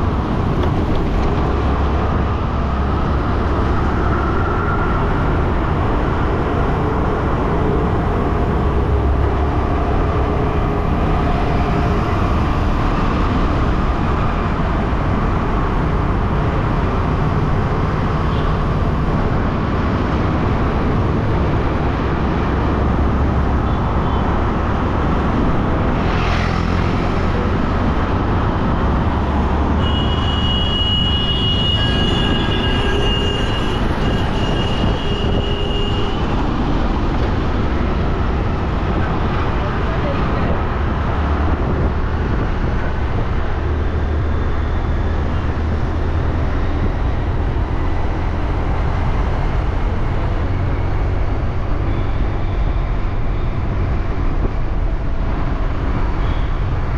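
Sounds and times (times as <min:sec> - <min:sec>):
road noise: 0:00.0 - 0:56.9.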